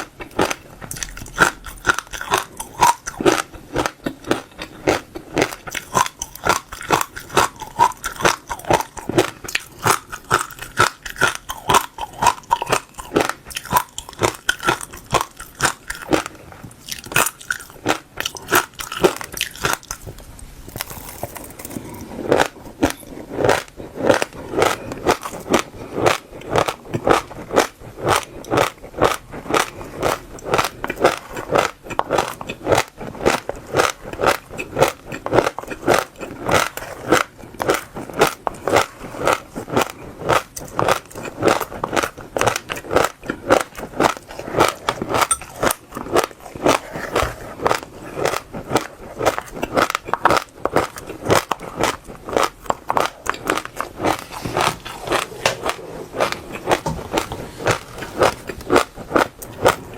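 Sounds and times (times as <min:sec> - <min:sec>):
crunchy seeds being chewed: 0:00.0 - 0:59.9.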